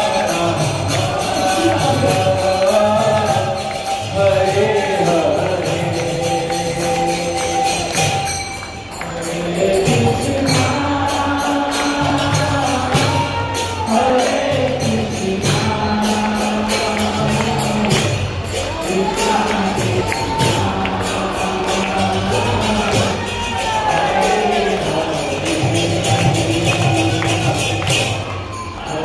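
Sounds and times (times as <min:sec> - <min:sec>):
group chanting: 0:00.0 - 0:08.3, 0:09.0 - 0:29.0
jingling hand percussion: 0:00.0 - 0:29.0.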